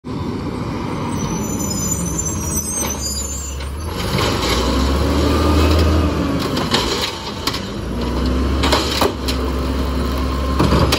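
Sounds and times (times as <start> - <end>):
brakes squealing: 0.1 - 10.6
garbage truck engine rumble: 0.2 - 10.9.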